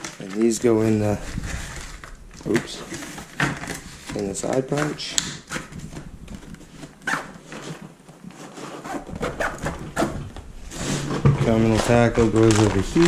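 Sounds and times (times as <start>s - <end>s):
plastic boxes knocking: 0.0s - 8.2s, 9.0s - 13.0s
fabric backpack rustling: 0.0s - 13.0s.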